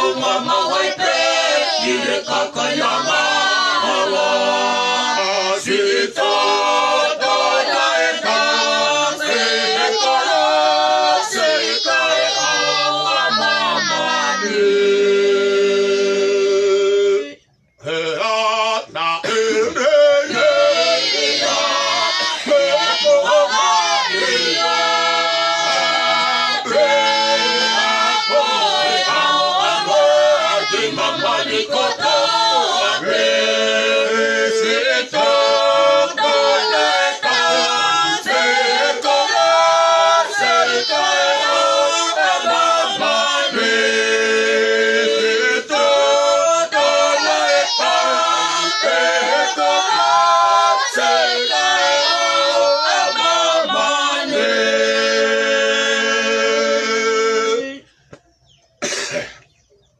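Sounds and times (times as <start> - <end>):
group singing unaccompanied: 0.0 - 58.1.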